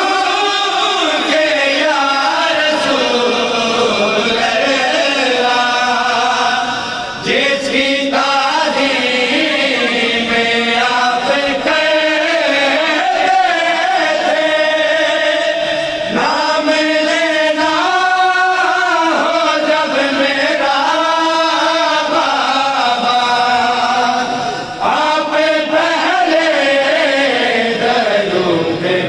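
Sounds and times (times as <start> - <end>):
male voices chanting a lament: 0.0 - 29.0.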